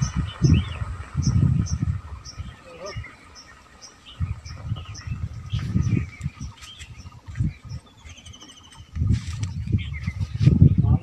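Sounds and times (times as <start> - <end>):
bird trill: 0.0 - 10.8
birds chirping: 0.0 - 11.0
low rumbles: 0.0 - 11.0.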